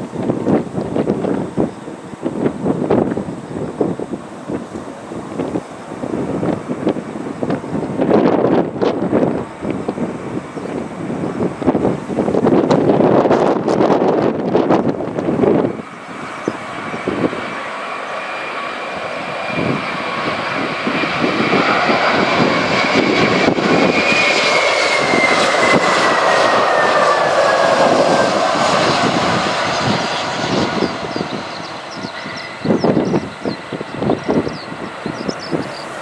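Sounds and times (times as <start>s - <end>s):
jet airliner passing by: 0.0s - 36.0s
wind buffeting microphone: 0.0s - 36.0s.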